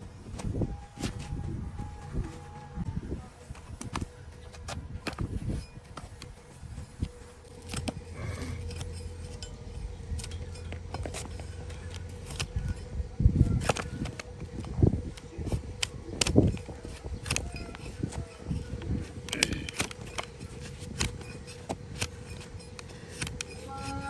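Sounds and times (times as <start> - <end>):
blade scraping hoof: 3.4 - 24.0.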